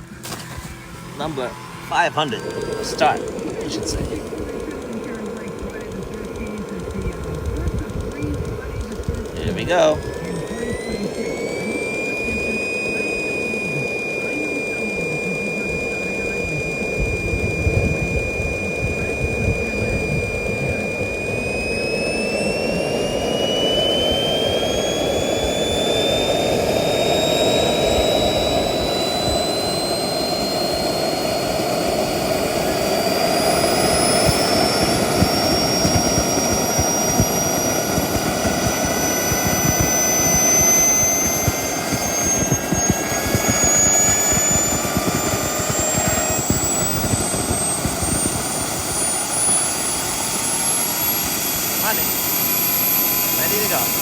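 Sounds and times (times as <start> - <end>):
model turbine engine spooling up: 0.0 - 54.0.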